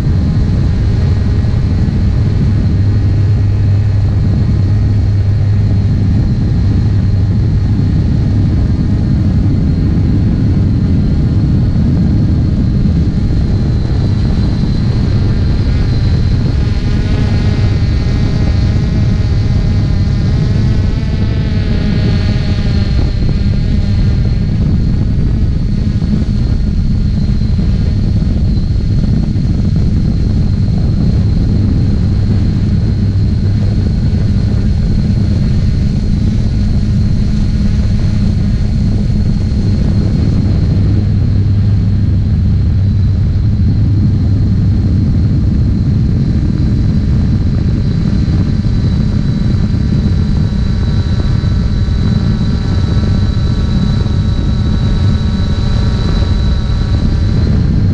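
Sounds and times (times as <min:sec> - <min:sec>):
drone motors humming and whining: 0:00.0 - 0:57.9.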